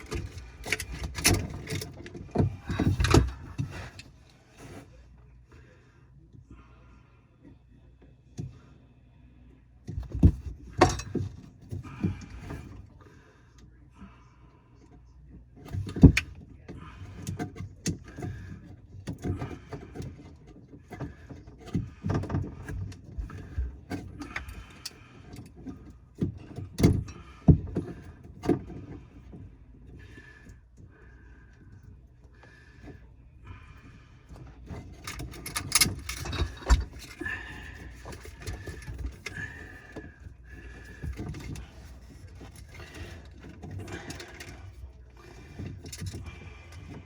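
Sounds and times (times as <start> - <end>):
plumbing knocks clunks and scrapes: 0.0 - 5.1, 9.8 - 13.4, 14.8 - 47.0.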